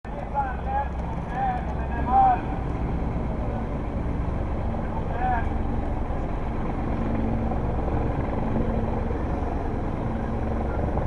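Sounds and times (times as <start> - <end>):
constant humming tone: 0.1 - 11.0
motor vehicle engines droning: 0.1 - 11.0.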